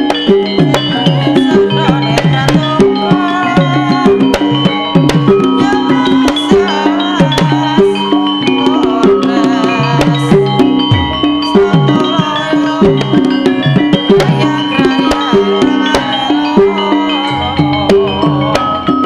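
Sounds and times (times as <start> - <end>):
hand drums sliding down in pitch: 0.0 - 19.0
ringing metallophone notes: 0.0 - 19.0
wavering melody line: 0.0 - 19.0.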